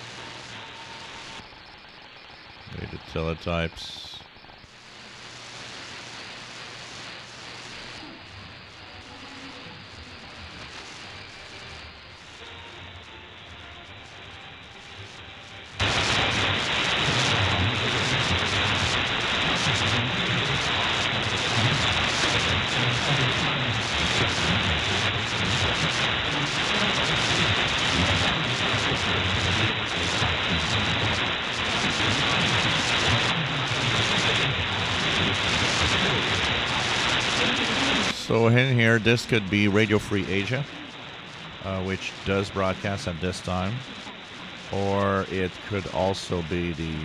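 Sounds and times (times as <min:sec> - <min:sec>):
radio static hiss: 0:00.0 - 0:47.0
weak radio signal: 0:00.0 - 0:47.0.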